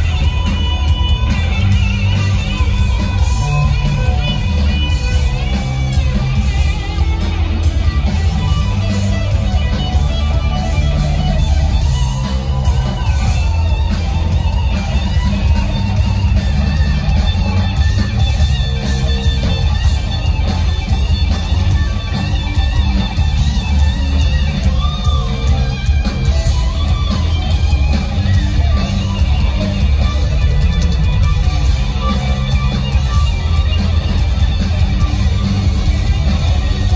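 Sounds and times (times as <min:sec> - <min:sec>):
drum kit: 0:00.0 - 0:36.9
electric bass: 0:00.0 - 0:36.9
electric guitar: 0:00.0 - 0:36.9.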